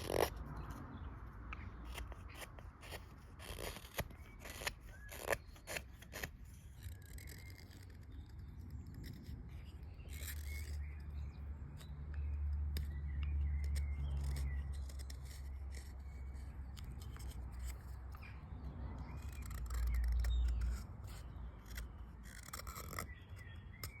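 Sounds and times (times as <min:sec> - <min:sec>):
birds chirping: 0:03.8 - 0:24.0.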